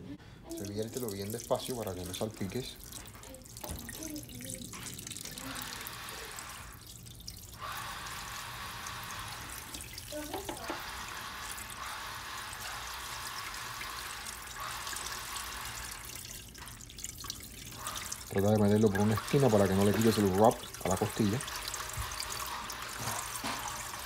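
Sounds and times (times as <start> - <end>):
liquid pouring into a pot: 0.5 - 24.0.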